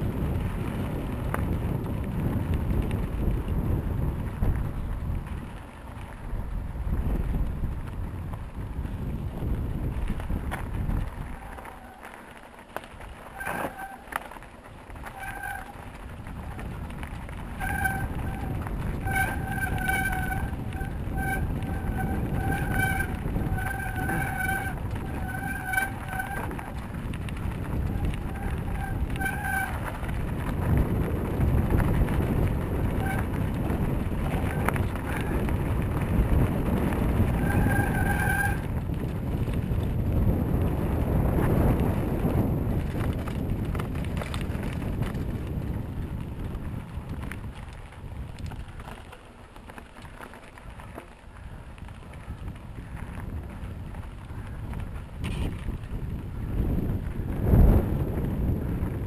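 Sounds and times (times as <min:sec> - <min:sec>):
wind buffeting microphone: 0:00.0 - 0:12.1, 0:12.8 - 0:59.0
bike rolling noise: 0:00.0 - 0:59.0.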